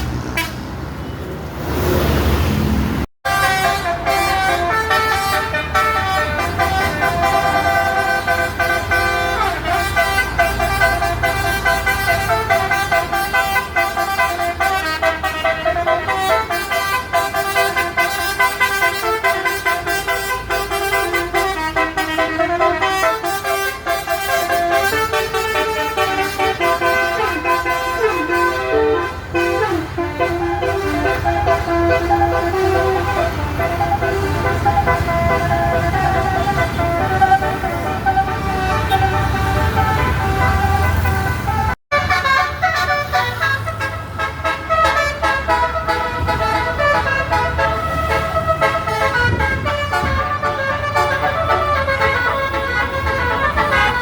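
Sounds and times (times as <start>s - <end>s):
bus engine rumbling: 0.0s - 54.0s
musical air horn tune: 3.2s - 54.0s.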